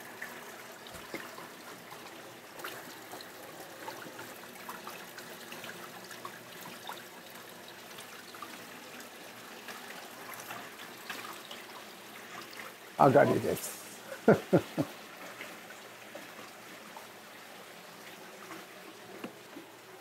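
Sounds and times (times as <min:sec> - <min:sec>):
water trickling: 0:00.0 - 0:20.0.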